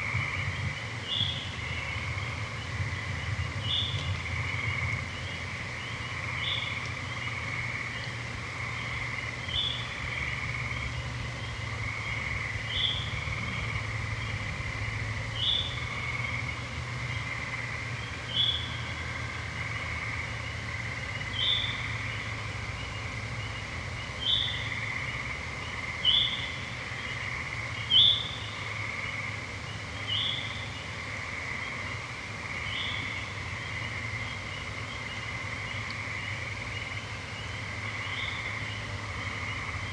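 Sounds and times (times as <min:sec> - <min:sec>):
treefrogs trilling: 0:00.0 - 0:39.9.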